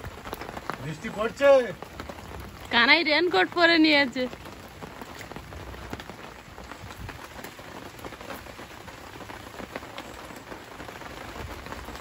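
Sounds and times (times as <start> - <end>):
rain falling on plants: 0.0 - 12.0.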